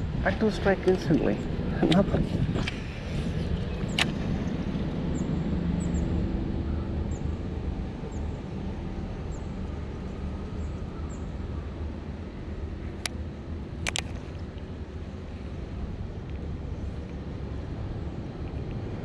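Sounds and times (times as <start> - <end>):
distant engine rumble: 0.0 - 19.0.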